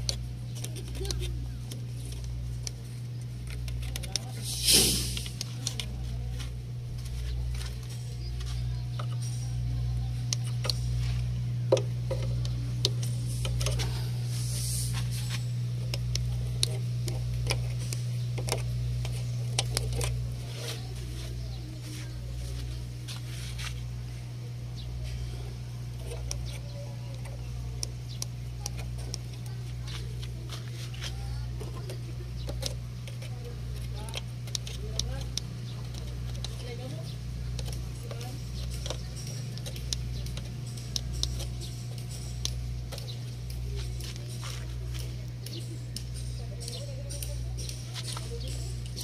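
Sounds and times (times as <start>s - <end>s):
soft handling noise: 0.0s - 49.0s
steady low hum: 0.0s - 49.0s.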